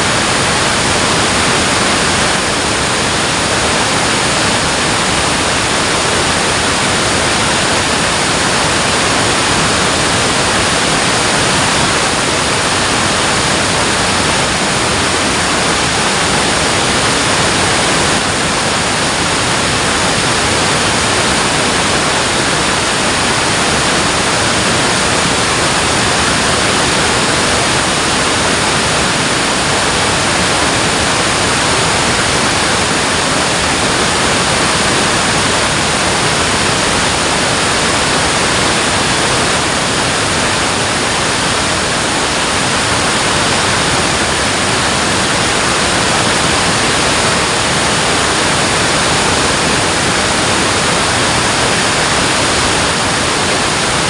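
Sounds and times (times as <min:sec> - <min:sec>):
water rushing over dam spillway: 0:00.0 - 0:54.0.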